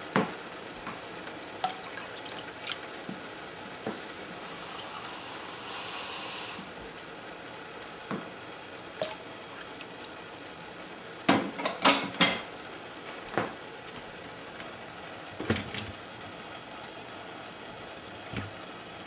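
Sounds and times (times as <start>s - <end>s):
water boiling in saucepan: 0.6s - 19.0s.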